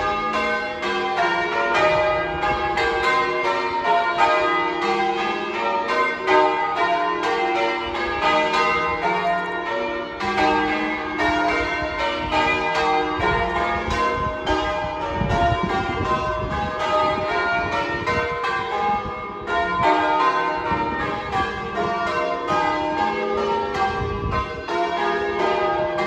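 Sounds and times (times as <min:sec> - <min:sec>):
church bells ringing a peal: 0:00.0 - 0:26.0.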